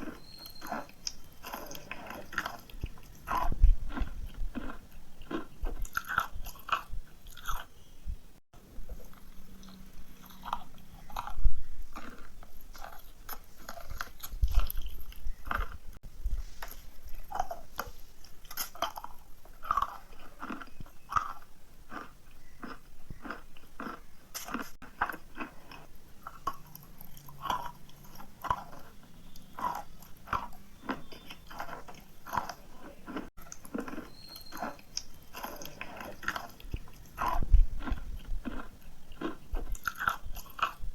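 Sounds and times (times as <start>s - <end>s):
chalk being bitten and chewed: 0.0s - 7.7s, 9.0s - 15.8s, 16.4s - 40.9s.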